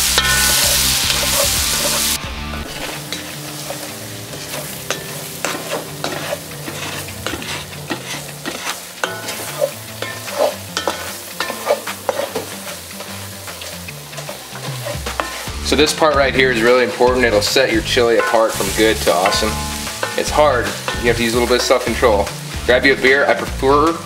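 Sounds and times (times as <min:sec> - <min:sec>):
meat sizzling in a pot: 0:00.0 - 0:24.0
wooden spoon scraping: 0:00.1 - 0:15.8, 0:16.5 - 0:22.6.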